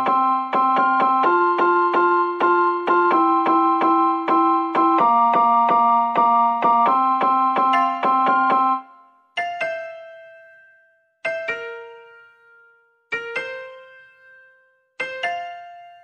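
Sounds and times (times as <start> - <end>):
keyboard background music: 0.0 - 16.0.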